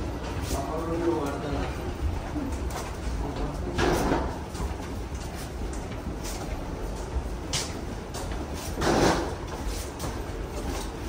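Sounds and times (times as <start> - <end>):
footsteps on jet bridge floor: 0.0 - 11.0.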